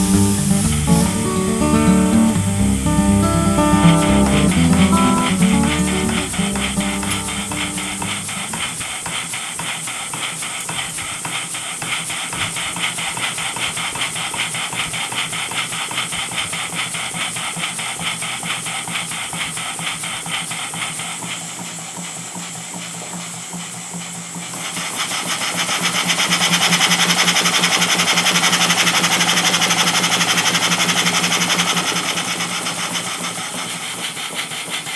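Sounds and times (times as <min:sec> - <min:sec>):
steam engine exhaust puffs: 0:00.0 - 0:34.9.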